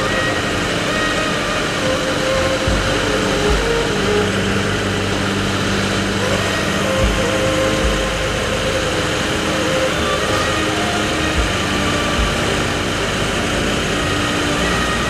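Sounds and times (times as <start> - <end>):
jeep engine idling: 0.0 - 15.0
low bumps: 0.0 - 15.0.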